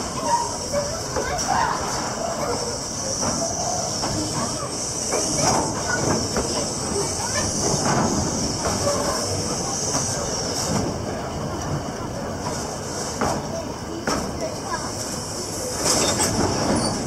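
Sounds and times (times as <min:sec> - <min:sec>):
steam train hiss: 0:00.0 - 0:17.0
train wheels clacking and squealing: 0:00.0 - 0:17.0.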